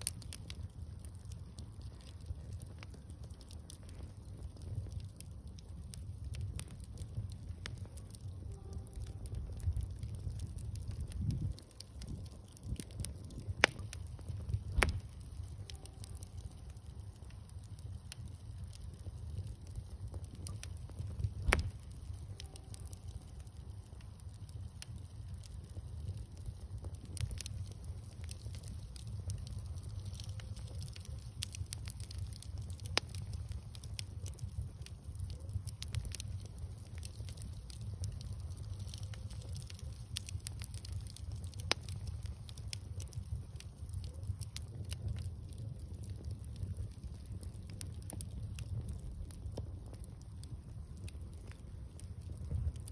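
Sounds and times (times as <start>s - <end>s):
bonfire crackling and popping: 0.0s - 52.9s
fire snapping: 0.0s - 52.9s
low rumble of burning wood: 0.0s - 52.9s.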